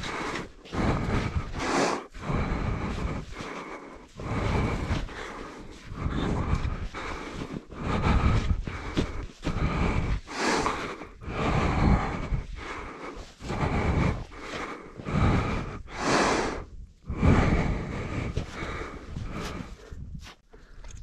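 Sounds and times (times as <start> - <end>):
person panting: 0.0 - 21.0.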